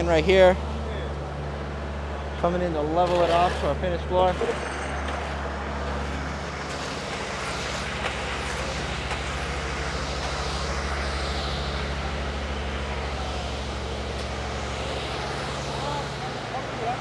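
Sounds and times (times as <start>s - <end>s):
machine engine droning: 0.0s - 17.0s.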